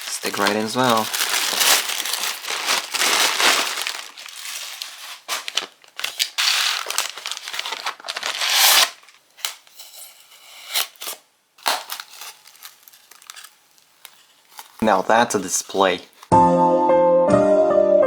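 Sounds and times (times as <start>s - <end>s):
packaging tearing and rustling: 0.0s - 16.3s.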